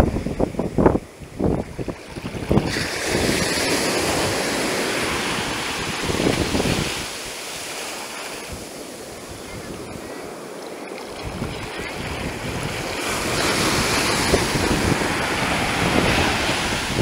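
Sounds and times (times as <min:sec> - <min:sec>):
wind buffeting microphone: 0:00.0 - 0:07.6, 0:08.4 - 0:17.0
surf washing in: 0:00.0 - 0:17.0.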